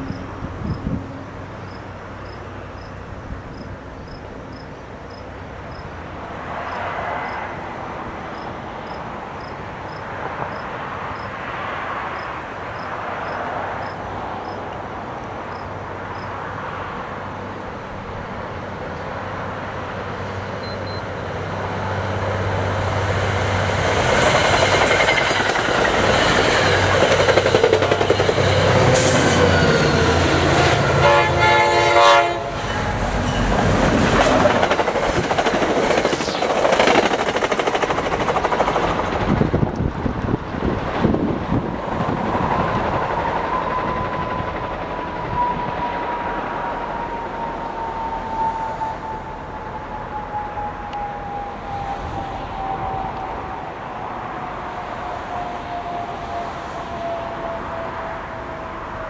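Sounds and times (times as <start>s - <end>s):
train engine hum: 0.0s - 59.0s
wheels rumbling on rail: 0.0s - 59.0s.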